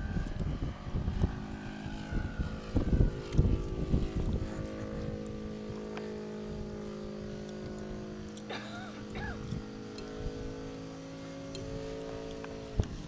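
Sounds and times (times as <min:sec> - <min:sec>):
model plane motor and propeller: 0:00.0 - 0:13.0
wind buffeting microphone: 0:00.0 - 0:13.0.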